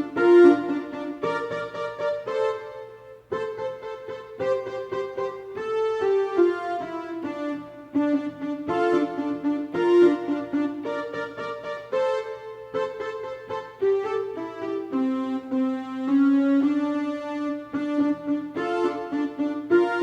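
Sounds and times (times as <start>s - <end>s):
electronic keyboard melody: 0.0s - 20.0s.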